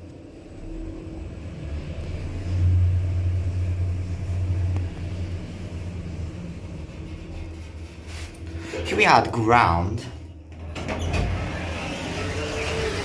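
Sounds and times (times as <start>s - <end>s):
elevator hum and rumble: 0.0s - 13.0s.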